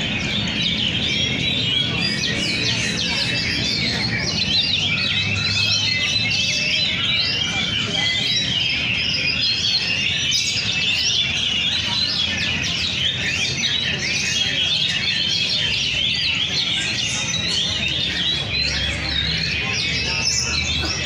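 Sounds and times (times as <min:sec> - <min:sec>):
magpie-robins whistling and chirping: 0:00.0 - 0:21.0.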